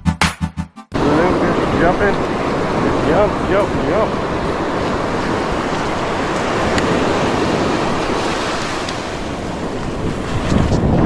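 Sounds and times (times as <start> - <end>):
surf washing on shore: 1.0 - 11.0
wind buffeting microphone: 1.0 - 11.0.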